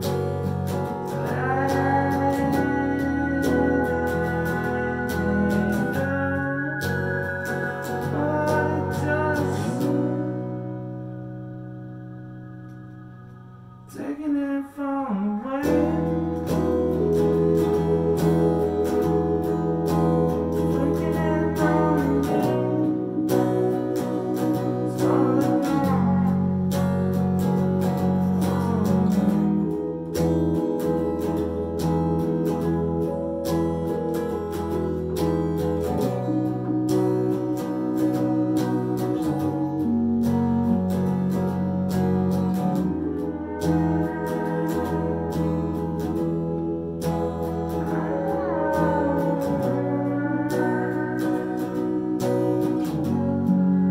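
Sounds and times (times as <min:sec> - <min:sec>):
person singing: 0:00.0 - 0:11.4, 0:13.8 - 0:53.9
electric guitar strummed: 0:00.0 - 0:14.2, 0:15.3 - 0:53.9
keyboard chords: 0:00.0 - 0:53.9.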